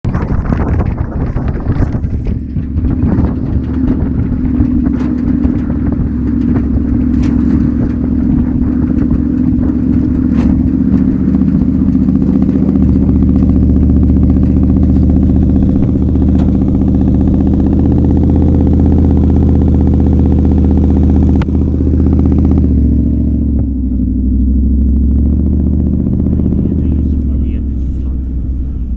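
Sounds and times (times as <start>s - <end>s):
clatter and knocks: 0.1s - 23.8s
engine running under load: 0.1s - 28.9s.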